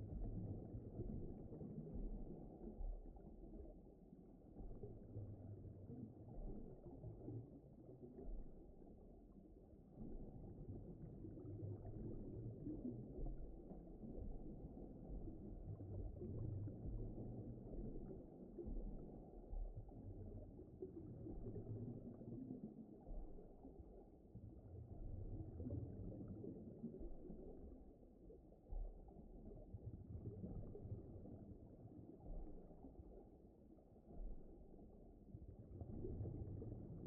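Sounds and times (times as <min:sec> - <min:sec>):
muffled underwater rumble: 0:00.0 - 0:37.0.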